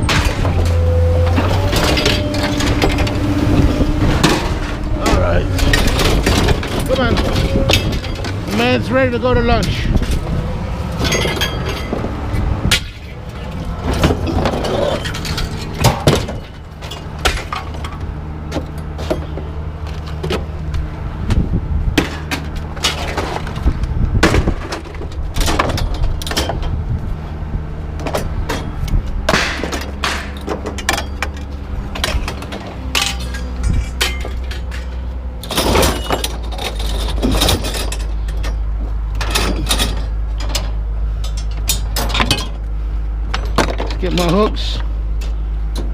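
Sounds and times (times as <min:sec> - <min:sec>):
scrap metal clanking and crashing: 0:00.0 - 0:20.7, 0:21.9 - 0:27.3, 0:27.9 - 0:45.9
low engine hum: 0:00.0 - 0:45.9.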